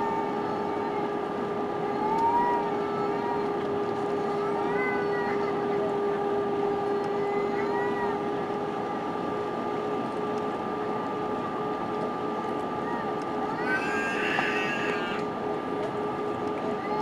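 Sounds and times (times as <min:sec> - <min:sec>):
jet engine hum and whine: 0:00.0 - 0:17.0.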